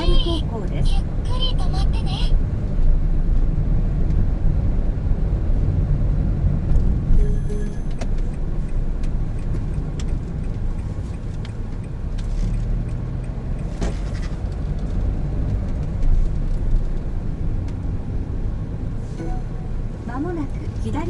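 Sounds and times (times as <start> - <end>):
car engine rumble from inside: 0.0 - 21.0.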